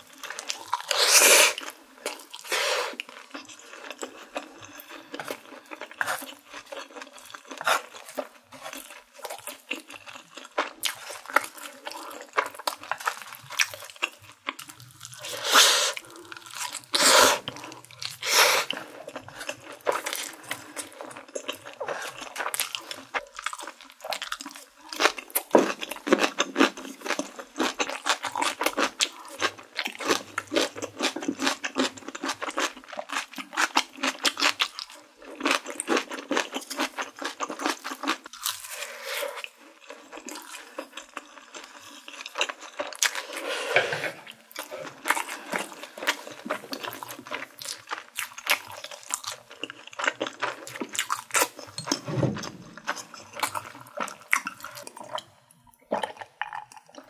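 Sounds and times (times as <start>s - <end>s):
chewing and crunching noodles: 0.0s - 57.0s.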